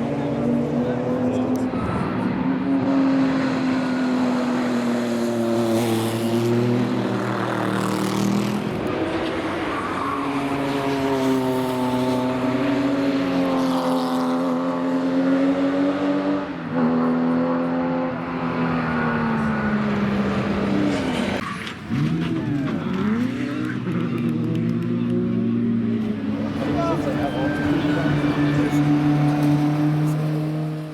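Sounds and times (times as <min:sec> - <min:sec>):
racing car engines revving: 0:00.0 - 0:30.9.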